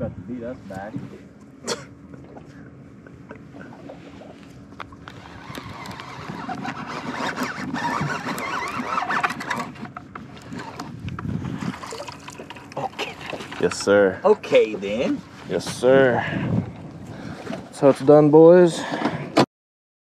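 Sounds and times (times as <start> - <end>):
outboard motor running: 0.0 - 19.4.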